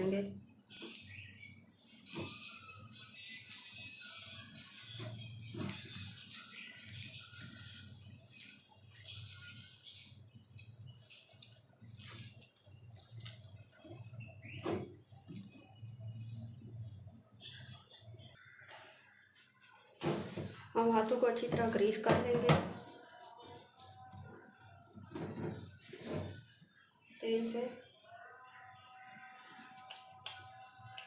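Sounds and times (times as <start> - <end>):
wet squelching of mixing meat: 0.0 - 17.2, 19.6 - 26.3, 29.4 - 31.0.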